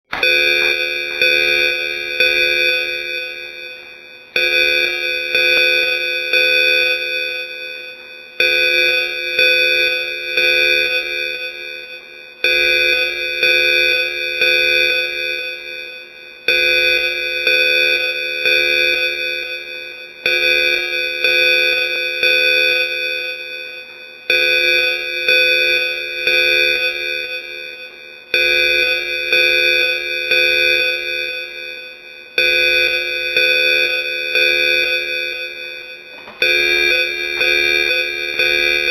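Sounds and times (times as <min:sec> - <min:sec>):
evacuation alarm ringing: 0:00.1 - 0:38.9.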